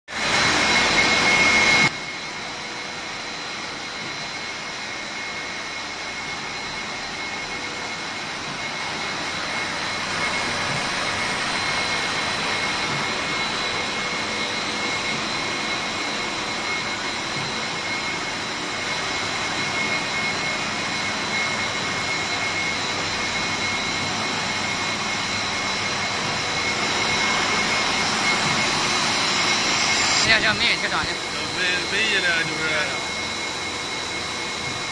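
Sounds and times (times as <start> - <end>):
thin high whine: 3.8 - 34.9.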